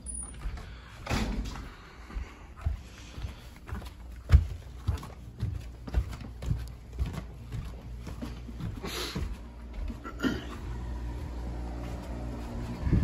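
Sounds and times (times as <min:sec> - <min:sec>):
footsteps on carpeted stairs: 0:00.0 - 0:13.0.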